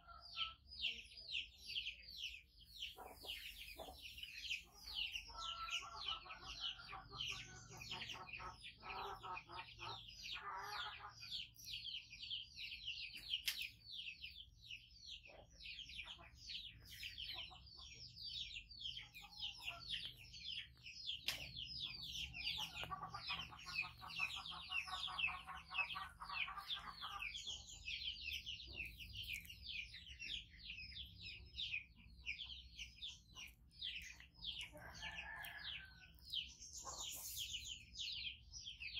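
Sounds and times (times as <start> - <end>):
rapid high-pitched bird chirping: 0.0 - 38.9.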